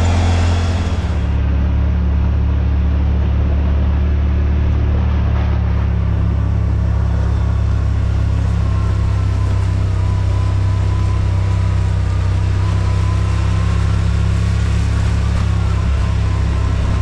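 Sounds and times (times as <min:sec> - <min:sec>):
utility vehicle engine droning: 0:00.0 - 0:17.0.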